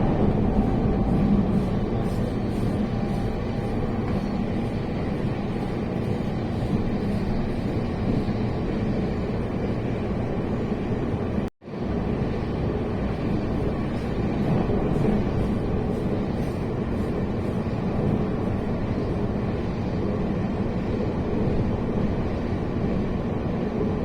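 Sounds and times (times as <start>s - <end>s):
train rumbling from inside carriage: 0.0s - 24.0s.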